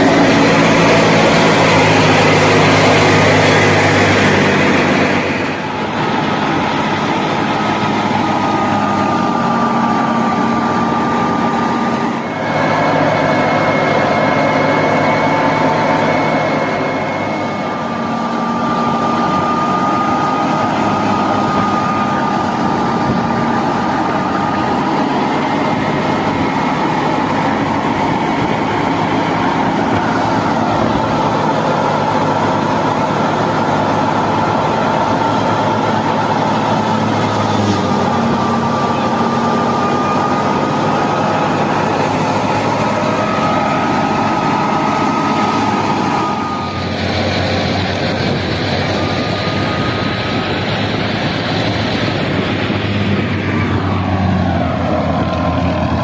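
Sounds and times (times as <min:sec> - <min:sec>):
high steady whine: 0:00.0 - 0:56.0
thresher machine drone: 0:00.0 - 0:56.0.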